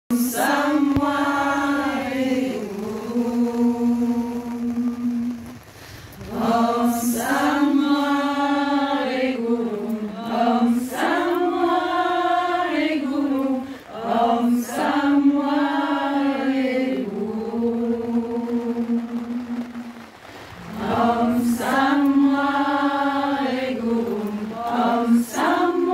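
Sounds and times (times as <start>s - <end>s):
women chanting in unison: 0.1s - 5.4s, 6.3s - 19.7s, 20.6s - 25.9s.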